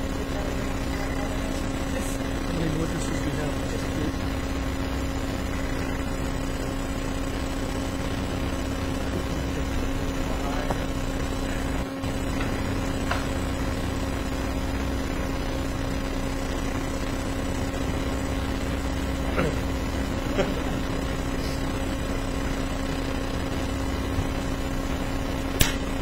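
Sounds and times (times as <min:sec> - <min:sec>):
room tone hum and hiss: 0:00.0 - 0:26.0.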